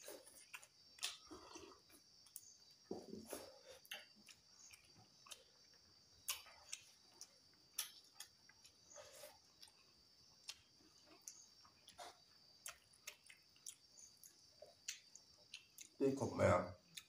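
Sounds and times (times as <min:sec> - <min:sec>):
people chewing with wet smacks: 0:00.0 - 0:17.0.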